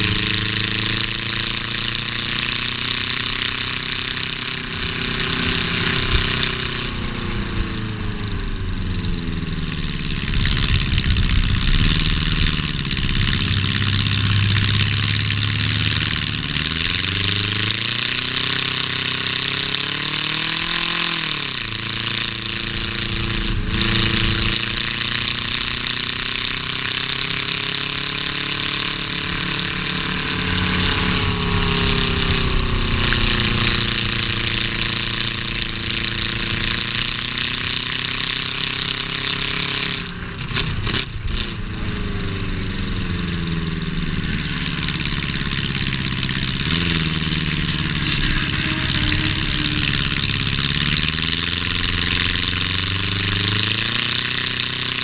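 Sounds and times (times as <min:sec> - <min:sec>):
race car engine revving: 0:00.0 - 0:55.0
road noise: 0:00.0 - 0:55.0.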